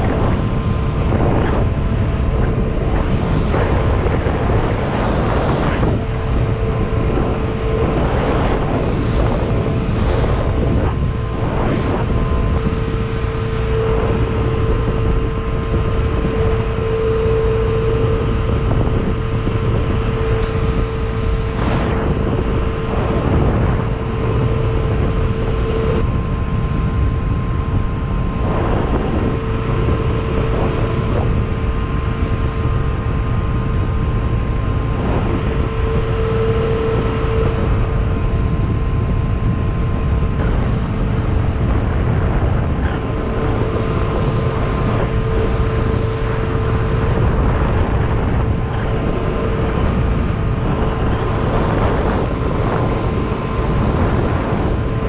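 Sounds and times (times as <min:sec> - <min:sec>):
boat engine drone: 0:00.0 - 0:55.0
hull rushing over water: 0:00.0 - 0:55.0
wind on microphone: 0:00.0 - 0:55.0.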